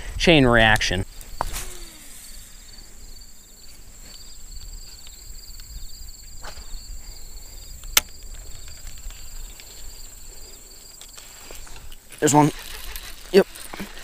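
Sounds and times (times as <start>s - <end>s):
insects chirping: 0.4s - 14.0s.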